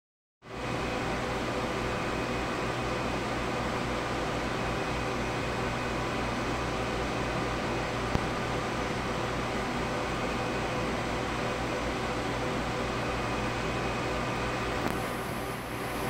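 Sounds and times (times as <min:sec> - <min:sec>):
server cooling fans whirring: 0:00.5 - 0:16.0.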